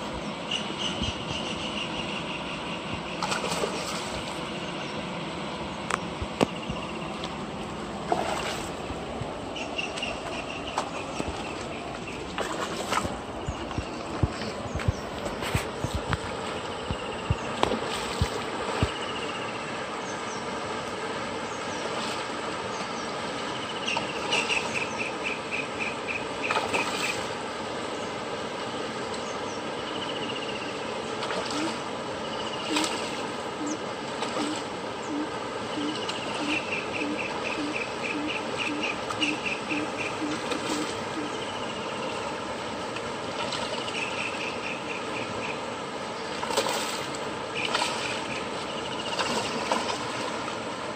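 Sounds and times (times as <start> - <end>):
rushing water: 0.0 - 50.9.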